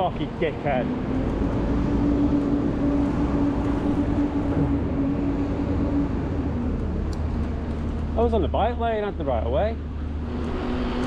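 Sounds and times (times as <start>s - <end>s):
low vehicle rumble: 0.0s - 11.0s
vehicle hum: 0.0s - 11.0s.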